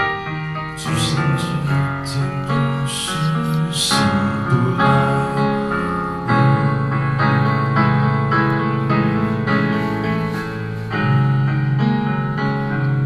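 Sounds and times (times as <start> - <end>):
piano playing chords: 0.0 - 13.0.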